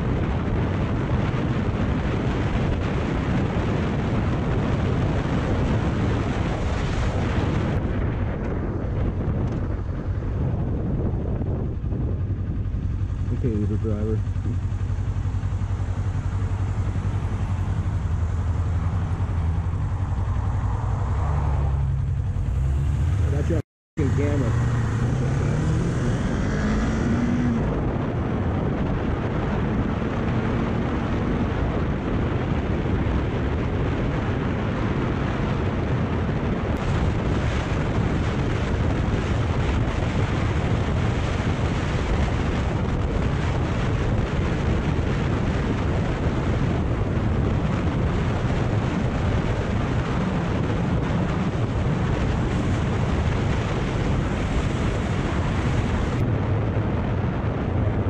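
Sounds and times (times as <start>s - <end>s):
motorcycle engine: 0.0s - 56.5s
wind over microphone: 0.0s - 58.0s.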